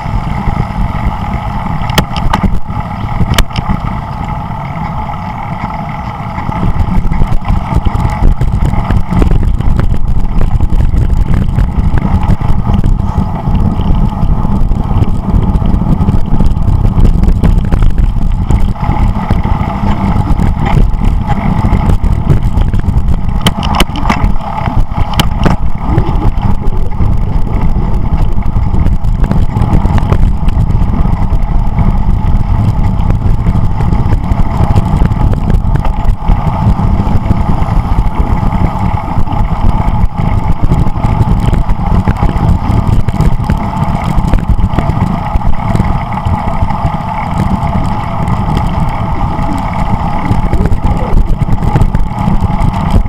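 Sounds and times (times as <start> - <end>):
wind buffeting microphone: 0.0 - 53.0
sharp clicks and rattles: 0.3 - 53.0.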